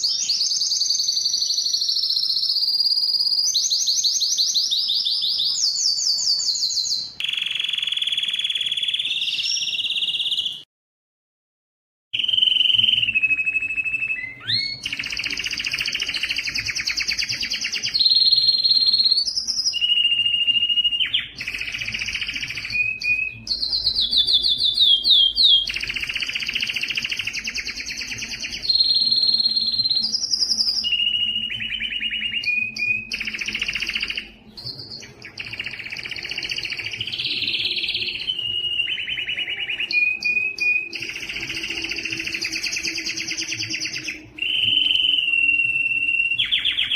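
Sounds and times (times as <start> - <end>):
canary singing trills: 0.0 - 10.6, 12.2 - 46.9.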